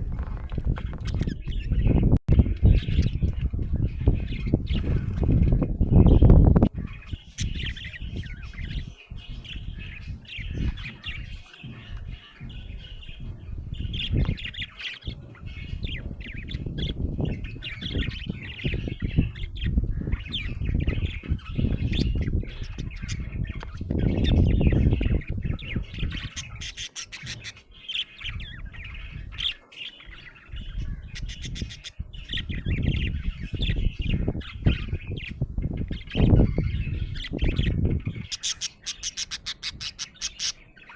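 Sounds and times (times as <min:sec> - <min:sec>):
budgerigar chirping and chattering: 0:00.2 - 0:40.9.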